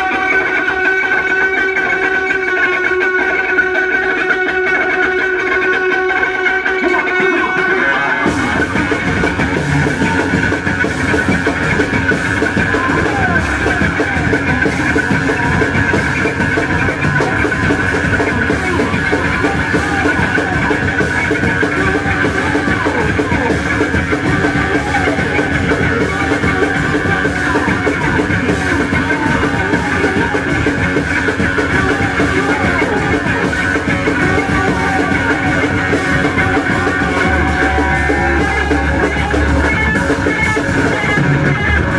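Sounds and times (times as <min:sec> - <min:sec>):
drum kit pounding: 0:00.0 - 0:41.9
distorted electric bass: 0:08.2 - 0:41.9.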